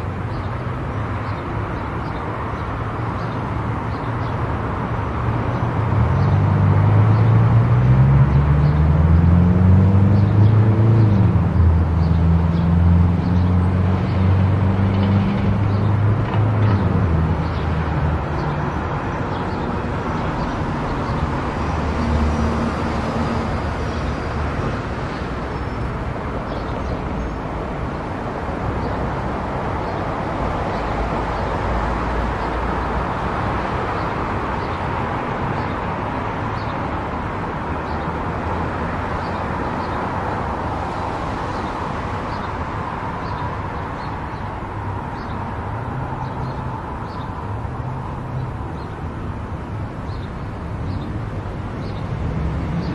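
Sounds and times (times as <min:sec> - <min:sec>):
tyre and road noise: 0:00.0 - 0:52.9.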